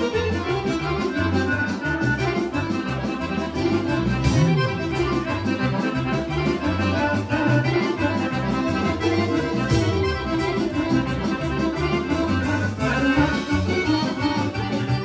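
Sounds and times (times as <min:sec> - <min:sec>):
accordion: 0:00.0 - 0:15.0
folk dance band music: 0:00.0 - 0:15.0.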